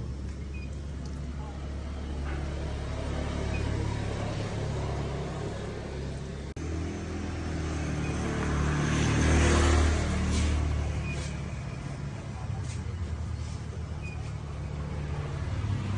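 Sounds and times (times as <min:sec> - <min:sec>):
motor engine humming: 0:00.0 - 0:15.9.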